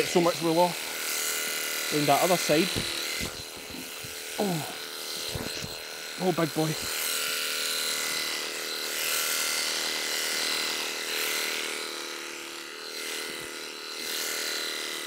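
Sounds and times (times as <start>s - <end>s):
electric shearing handpiece buzzing: 0.0s - 15.0s.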